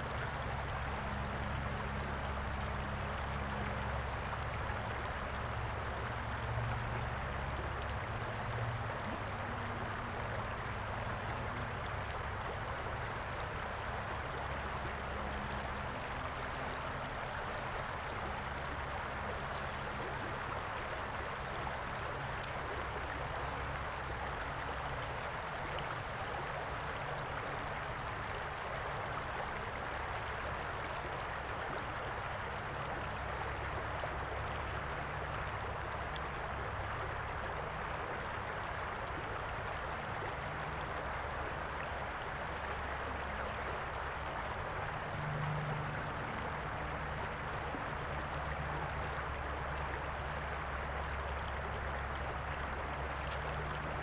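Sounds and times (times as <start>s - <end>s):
low water rumble: 0.0s - 54.0s
river water rushing over rocks: 0.0s - 54.0s.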